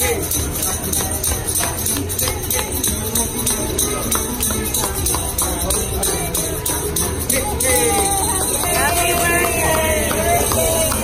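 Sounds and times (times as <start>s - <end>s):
hand clapping: 0.0s - 11.0s
tambourine jingling: 0.0s - 11.0s.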